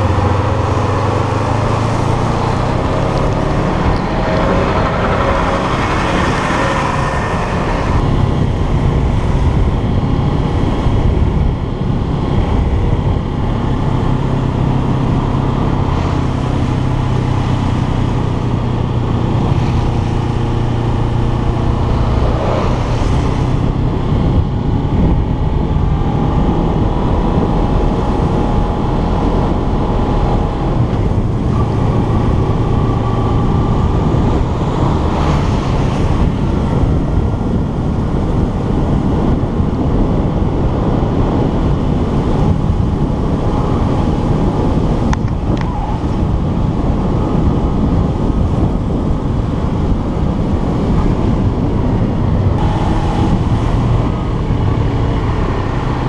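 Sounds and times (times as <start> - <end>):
motorcycle engine running: 0.0 - 56.0
wind on microphone: 0.0 - 56.0.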